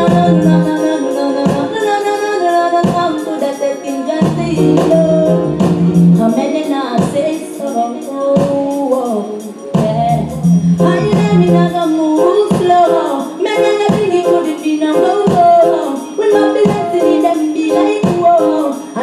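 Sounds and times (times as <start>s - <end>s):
reggae music with singing: 0.0s - 19.0s.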